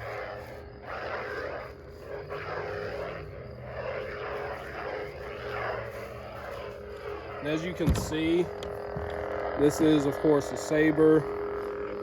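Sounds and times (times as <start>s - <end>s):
lightsaber buzzing hum: 0.0s - 12.0s.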